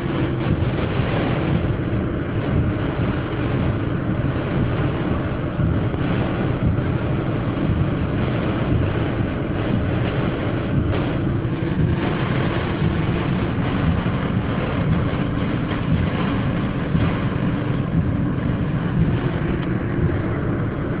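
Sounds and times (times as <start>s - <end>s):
rain driving on car: 0.0s - 21.0s
storm wind: 0.0s - 21.0s.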